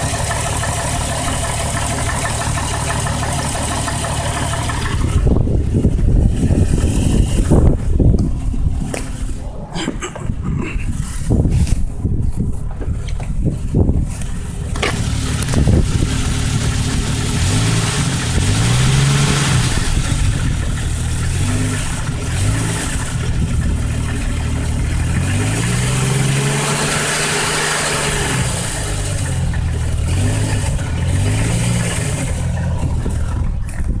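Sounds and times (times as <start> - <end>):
engine knocking: 0.0 - 8.0, 14.6 - 34.0
car engine idling and revving: 0.0 - 34.0.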